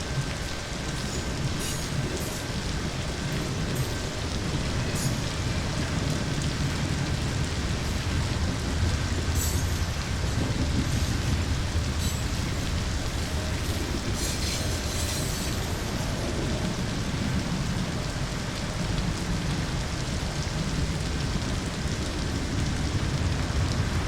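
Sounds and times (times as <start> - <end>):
rain hiss: 0.0 - 24.0
train rumbling on rails: 0.0 - 24.0.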